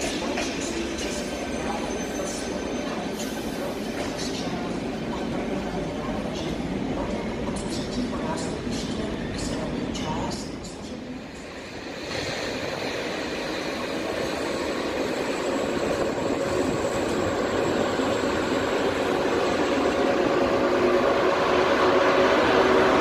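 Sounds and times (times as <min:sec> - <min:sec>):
electric locomotive humming: 0:00.0 - 0:23.0.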